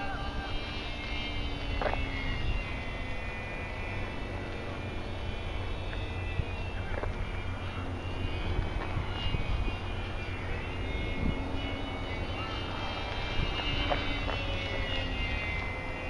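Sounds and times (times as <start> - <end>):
model plane motor whining: 0.0 - 16.0
wind buffeting microphone: 0.0 - 16.0.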